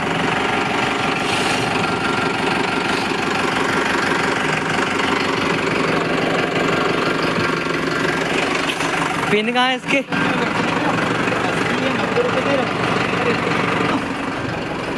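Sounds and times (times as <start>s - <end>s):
tractor diesel engine idling: 0.0s - 14.9s.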